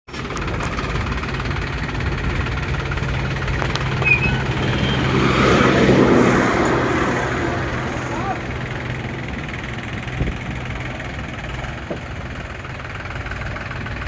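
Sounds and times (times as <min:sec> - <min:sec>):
tractor engine running: 0:00.1 - 0:14.0.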